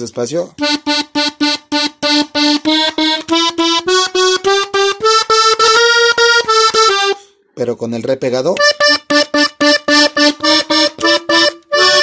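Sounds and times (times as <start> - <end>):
button accordion short notes: 0.6 - 7.3, 8.6 - 12.0.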